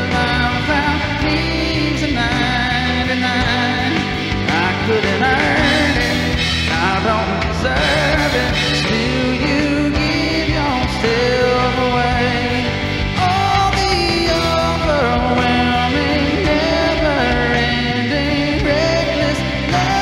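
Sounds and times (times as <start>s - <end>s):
live band playing: 0.0s - 20.0s.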